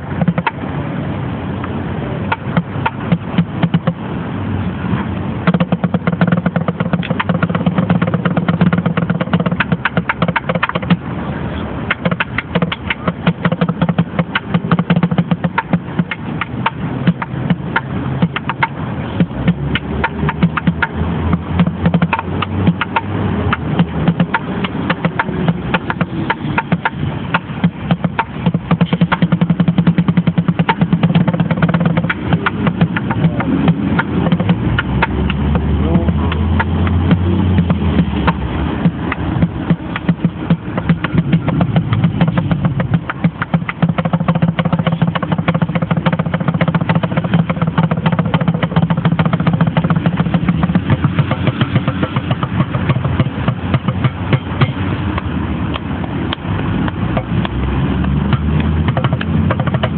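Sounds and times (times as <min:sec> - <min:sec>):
drumming on plastic bucket: 0:02.3 - 0:04.0, 0:05.4 - 0:11.1, 0:11.9 - 0:55.2, 0:58.2 - 0:59.9.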